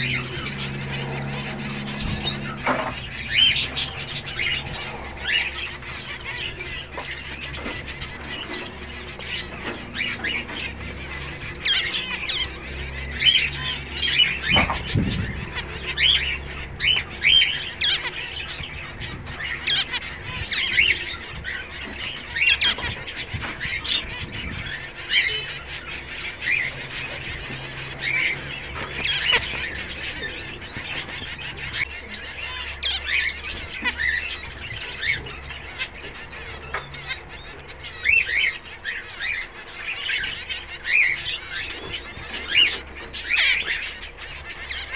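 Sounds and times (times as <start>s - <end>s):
finches chirping: 0.0s - 44.9s.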